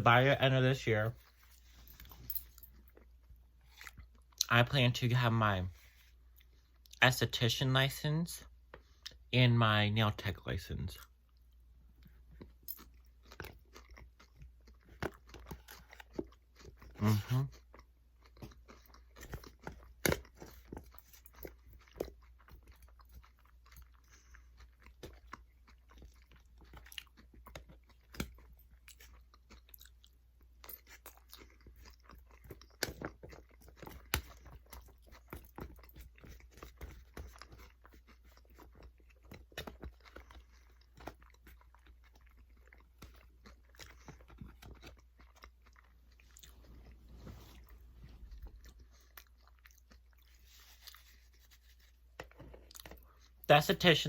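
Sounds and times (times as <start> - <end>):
person chewing food: 1.1 - 4.5, 11.0 - 53.5.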